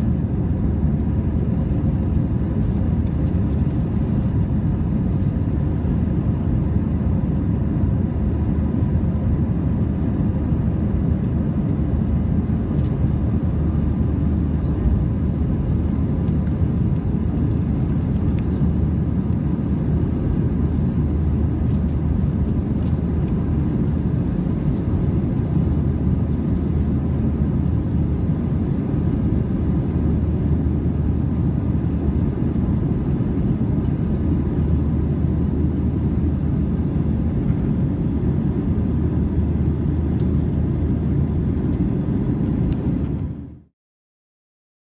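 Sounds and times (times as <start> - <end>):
faint constant hum: 0.0 - 43.7
jet engine rumble in cabin: 0.0 - 43.7.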